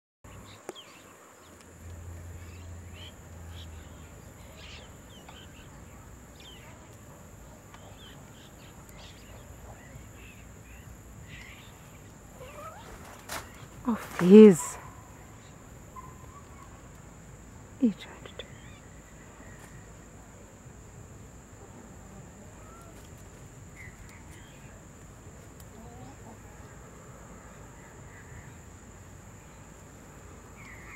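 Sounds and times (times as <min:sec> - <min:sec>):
birds chirping: 0:00.3 - 0:20.6, 0:23.6 - 0:30.9
high insect drone: 0:00.3 - 0:30.9.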